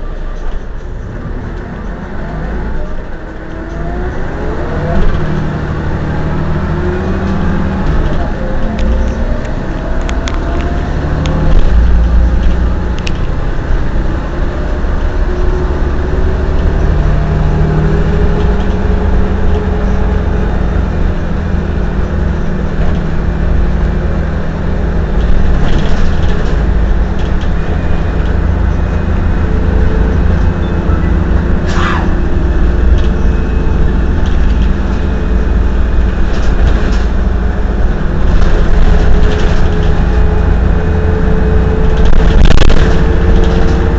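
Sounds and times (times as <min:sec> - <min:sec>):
bus engine running: 0:00.0 - 0:43.9.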